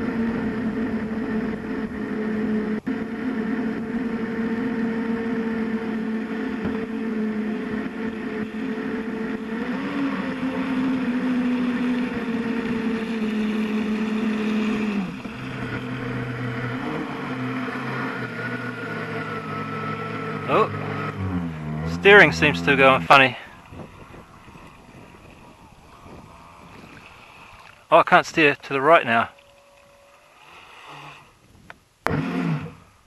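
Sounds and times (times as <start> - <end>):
electric motor whining: 0.0 - 27.4, 32.0 - 32.9.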